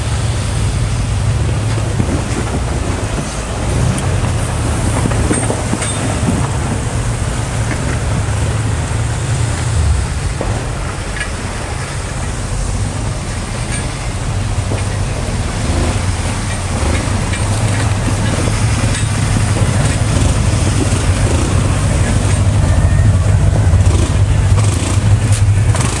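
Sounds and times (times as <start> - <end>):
engine running at low revs: 0.0 - 26.0.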